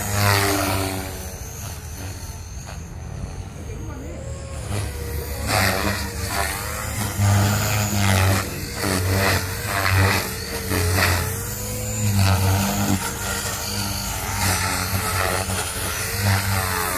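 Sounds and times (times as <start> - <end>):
electric motor whine: 0.0 - 16.9
helicopter rotor blades chopping: 0.0 - 16.9.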